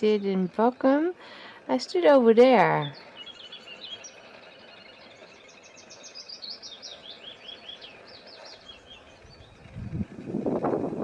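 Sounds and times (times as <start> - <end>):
songbirds singing: 0.0 - 10.9.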